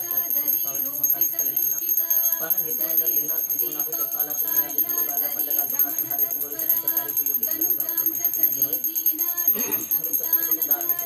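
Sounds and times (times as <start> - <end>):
jingling bells: 0.0 - 11.0.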